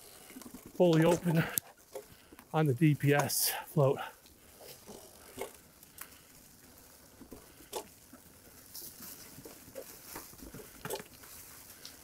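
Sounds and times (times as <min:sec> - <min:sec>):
bike tyres rolling over leaves: 0:00.0 - 0:12.0.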